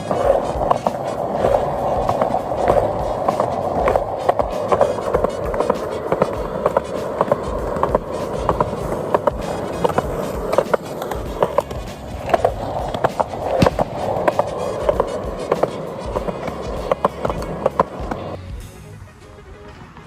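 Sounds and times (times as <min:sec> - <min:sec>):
skateboard clacks and knocks: 0:00.0 - 0:18.6
music playing: 0:00.0 - 0:20.0
skateboard wheels rolling: 0:00.0 - 0:20.0.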